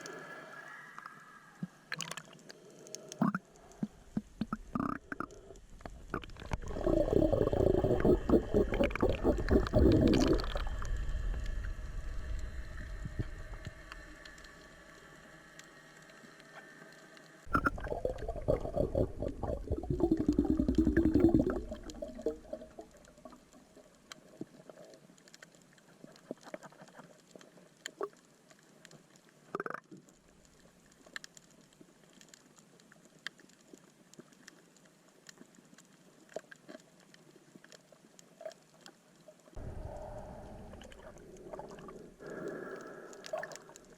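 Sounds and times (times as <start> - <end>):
faint clicks and crackles: 0.0 - 43.9
underwater bubbling and gurgling: 0.0 - 43.9.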